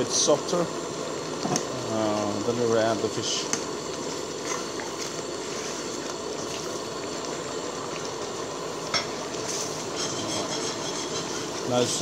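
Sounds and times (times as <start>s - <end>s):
sauce sizzling: 0.0s - 12.0s.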